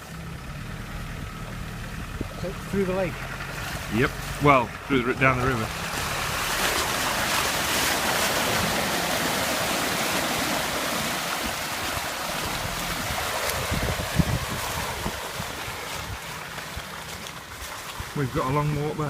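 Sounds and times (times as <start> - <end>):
water rushing and splashing: 0.0 - 19.0.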